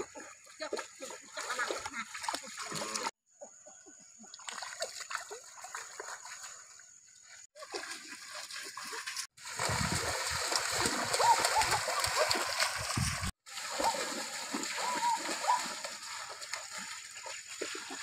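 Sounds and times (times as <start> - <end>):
feet splashing through stream: 0.0 - 3.2, 4.4 - 6.9, 7.5 - 18.0.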